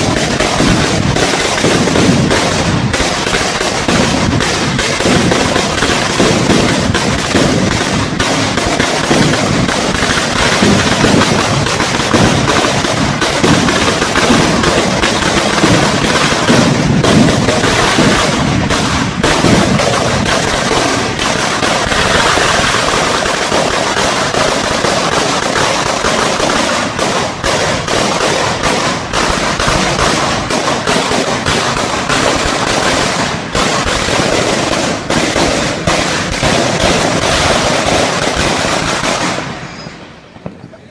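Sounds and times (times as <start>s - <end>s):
firecrackers rapid crackle: 0.0s - 40.9s.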